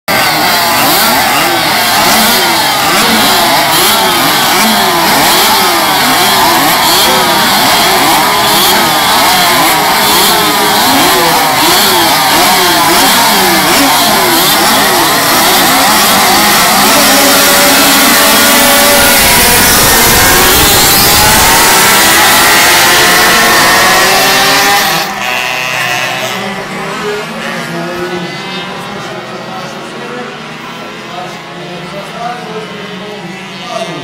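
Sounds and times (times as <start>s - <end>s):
motorcycle engines revving: 0.0s - 34.0s.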